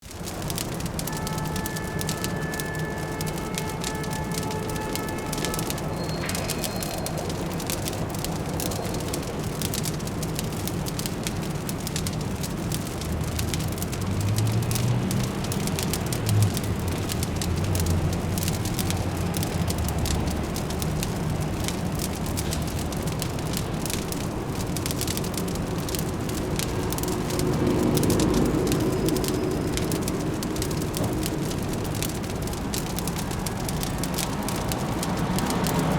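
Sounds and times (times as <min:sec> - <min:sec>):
distant traffic hum: 0:00.0 - 0:35.9
wood fire crackling: 0:00.0 - 0:35.9.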